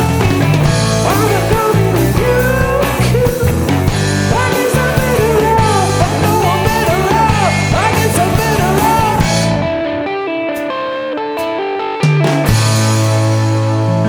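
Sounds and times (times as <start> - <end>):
electric guitar lead line bending: 0.0 - 14.0
guitar picking single notes: 0.0 - 14.0
live rock band playing: 0.0 - 14.0.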